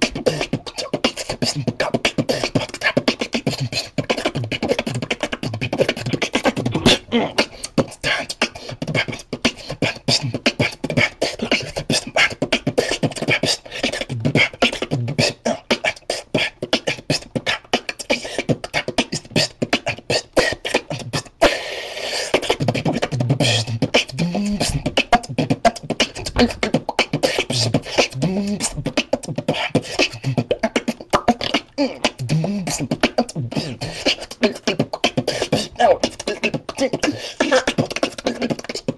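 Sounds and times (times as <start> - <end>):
beatboxing: 0.0 - 38.9.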